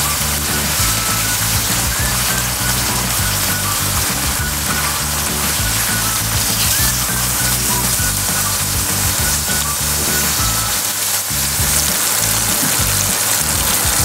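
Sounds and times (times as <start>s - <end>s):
background music with bass line: 0.0s - 14.0s
chicken sizzling in hot oil: 0.0s - 14.0s.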